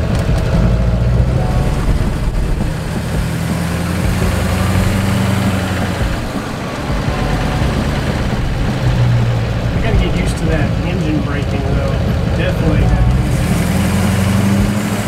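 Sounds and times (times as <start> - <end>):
diesel engine running: 0.0 - 15.0
road noise: 0.0 - 15.0.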